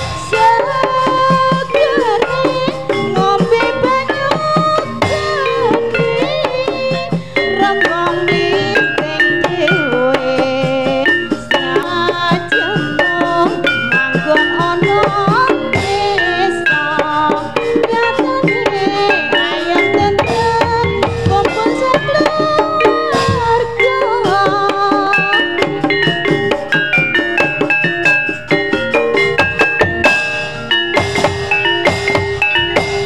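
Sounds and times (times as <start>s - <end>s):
gliding melody line: 0.0s - 33.0s
hand drums rhythm: 0.0s - 33.0s
ringing kettle gongs: 0.0s - 33.0s.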